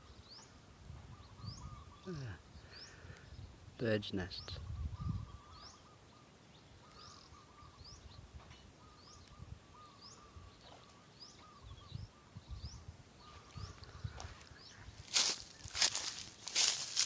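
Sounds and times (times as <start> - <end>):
wavering bird twitter: 0.0 - 3.1, 4.4 - 17.0.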